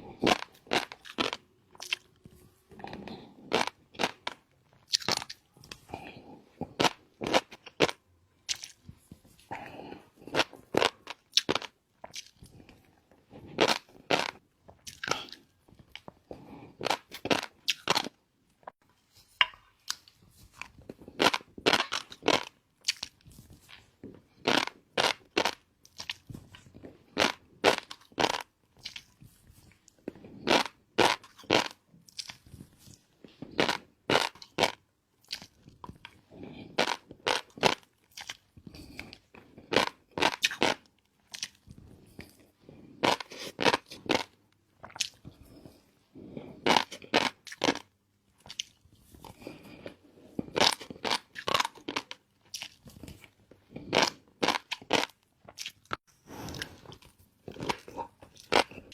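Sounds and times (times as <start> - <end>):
crunchy chewing: 0.0 - 18.2, 19.8 - 58.9.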